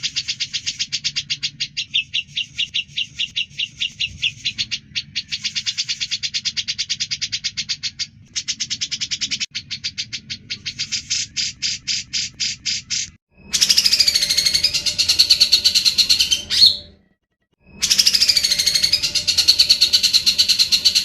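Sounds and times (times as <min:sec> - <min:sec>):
bulbul chattering: 0:00.0 - 0:17.0, 0:17.6 - 0:21.0.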